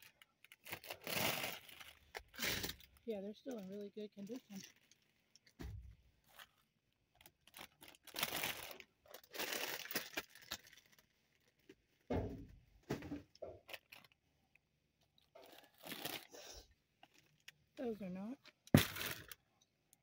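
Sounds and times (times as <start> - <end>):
plastic bags rustling and crinkling: 0.0 - 5.6, 6.2 - 12.1, 12.9 - 14.2, 15.3 - 19.4.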